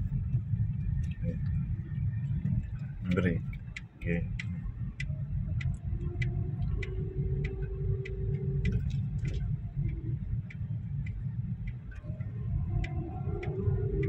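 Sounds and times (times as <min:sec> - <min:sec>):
car engine and road rumble: 0:00.0 - 0:14.0
turn signal ticking: 0:00.0 - 0:14.0.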